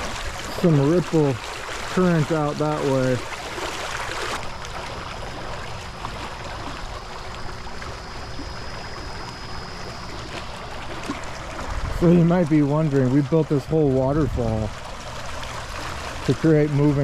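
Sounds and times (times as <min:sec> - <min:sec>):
pond water rippling among rocks: 0:00.0 - 0:17.0.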